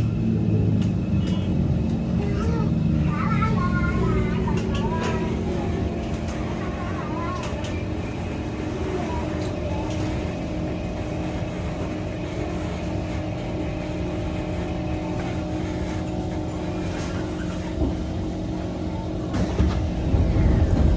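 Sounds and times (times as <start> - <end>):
train cabin hum and rumble: 0.0 - 20.9.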